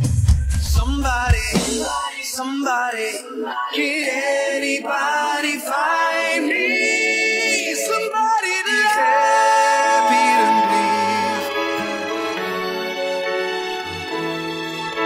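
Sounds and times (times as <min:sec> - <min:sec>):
person singing: 0:00.5 - 0:12.6.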